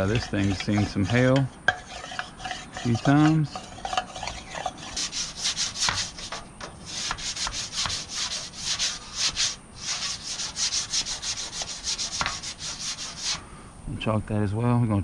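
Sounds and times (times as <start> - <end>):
chalk scrubbing on asphalt shingles: 0.0 - 13.4.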